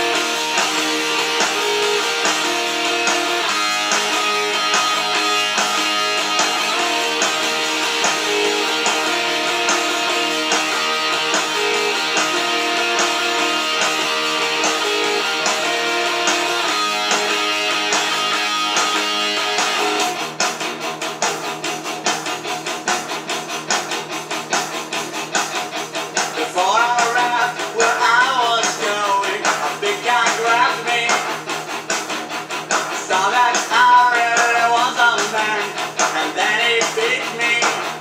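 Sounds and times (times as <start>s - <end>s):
bass and drums: 0.0s - 38.0s
strummed electric guitar: 0.0s - 38.0s.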